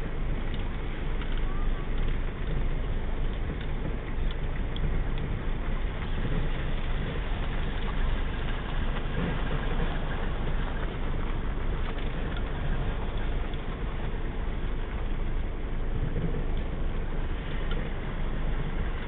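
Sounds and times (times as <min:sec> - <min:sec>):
car engine hum: 0:00.0 - 0:19.0
tyre and road rumble: 0:00.0 - 0:19.0.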